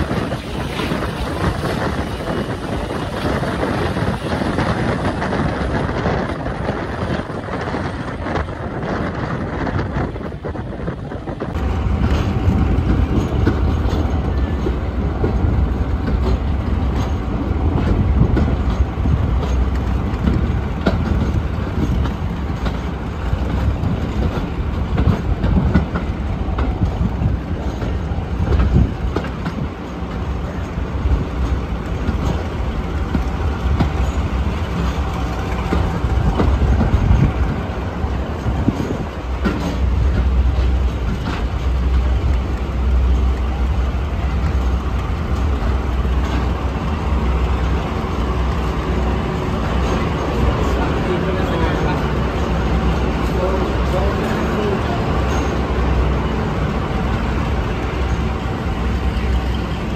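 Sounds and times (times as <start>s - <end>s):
train rumbling: 0.0s - 59.9s
wheels clicking over rails: 11.4s - 59.9s.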